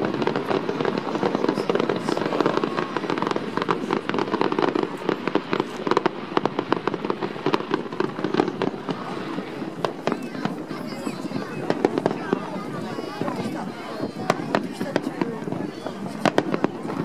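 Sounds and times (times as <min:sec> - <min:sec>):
fireworks cracks and bangs: 0:00.0 - 0:17.0.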